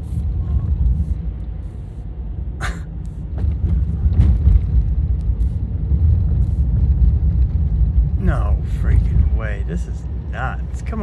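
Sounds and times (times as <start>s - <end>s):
car driving on snowy road: 0.0s - 11.0s.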